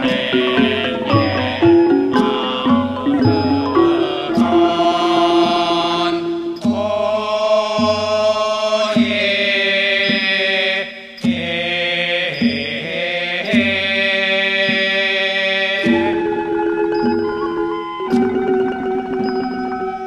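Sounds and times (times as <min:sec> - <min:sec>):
chant in long sliding notes: 0:00.0 - 0:20.0
regular struck beat: 0:00.0 - 0:20.0.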